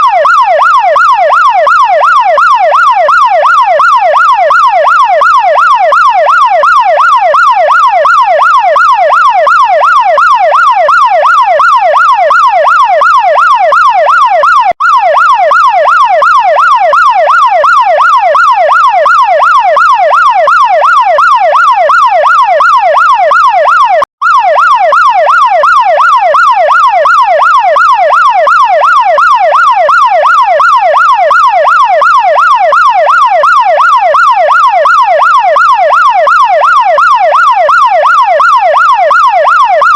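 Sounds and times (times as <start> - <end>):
fire truck siren wailing: 0.0 - 39.9.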